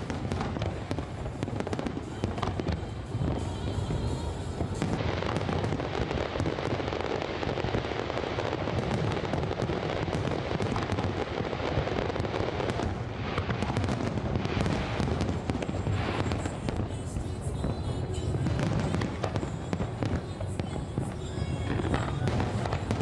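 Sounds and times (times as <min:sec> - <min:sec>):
firework booms: 0:00.0 - 0:23.0
firework crackling pops: 0:00.0 - 0:23.0.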